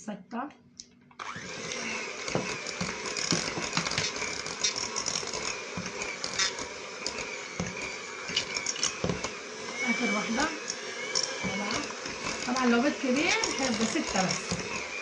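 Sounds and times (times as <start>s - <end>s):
electric hand mixer whirring: 1.2s - 15.0s.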